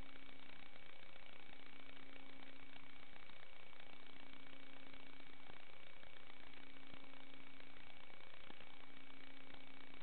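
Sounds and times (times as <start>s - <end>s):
faint constant tones: 0.0s - 10.0s.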